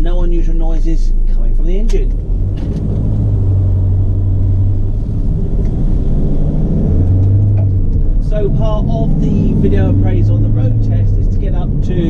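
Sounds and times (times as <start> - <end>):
diesel engine hum inside cab: 0.0 - 12.0.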